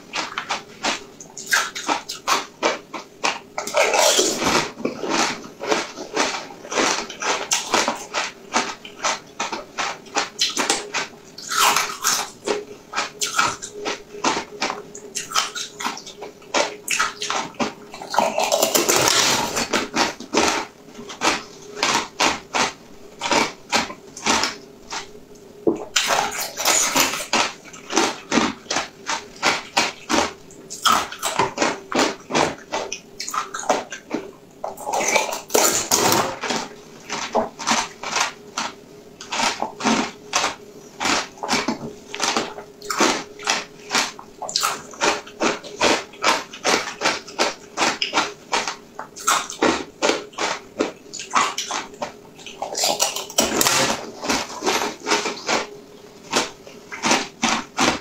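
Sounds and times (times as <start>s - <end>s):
faint steady hum: 0.0s - 58.0s
wet chewing of jelly: 0.0s - 58.0s.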